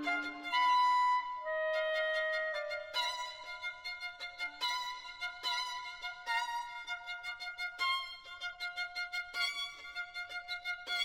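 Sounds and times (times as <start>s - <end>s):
violin melody: 0.0s - 11.0s.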